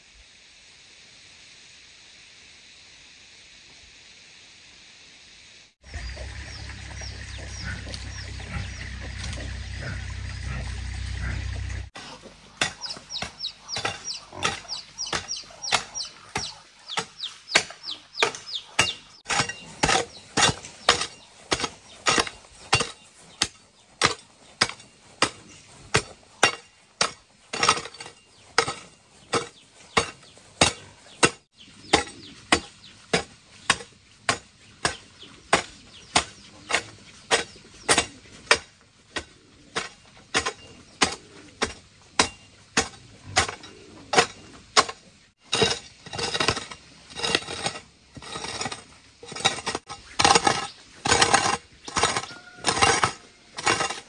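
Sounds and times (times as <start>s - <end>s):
hoe striking dry soil: 5.9s - 54.0s.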